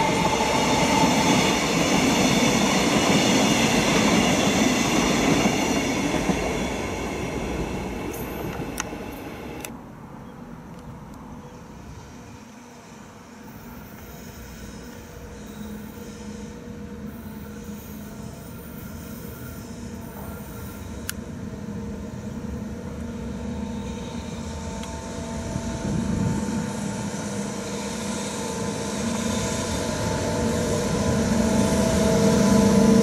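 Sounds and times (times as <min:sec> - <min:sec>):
electric locomotive humming: 0:00.0 - 0:33.0.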